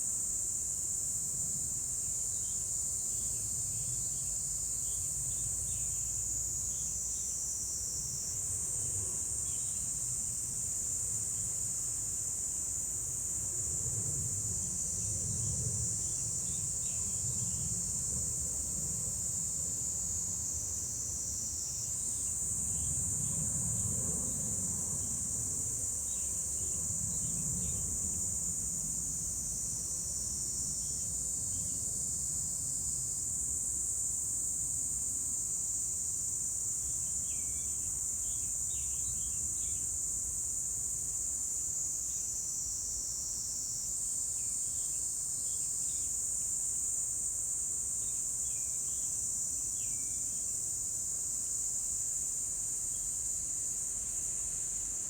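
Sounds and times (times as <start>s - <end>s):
faint insect chirps: 0.0s - 55.0s.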